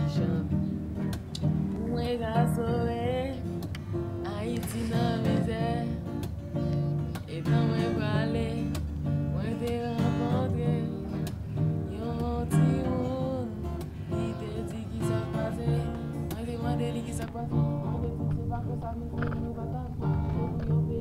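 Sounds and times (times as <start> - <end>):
young man singing: 0.0 - 0.8, 1.7 - 6.3, 7.0 - 21.0
acoustic guitar strumming: 0.0 - 21.0.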